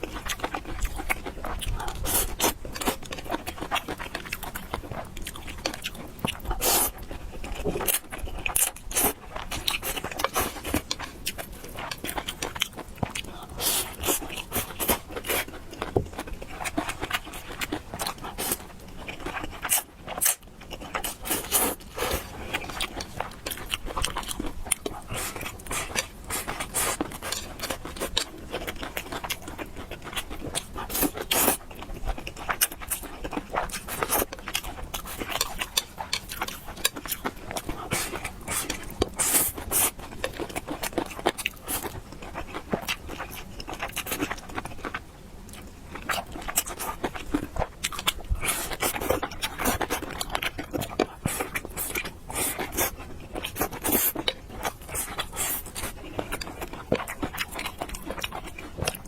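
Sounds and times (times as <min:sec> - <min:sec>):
person chewing noodles: 0:00.0 - 0:59.0.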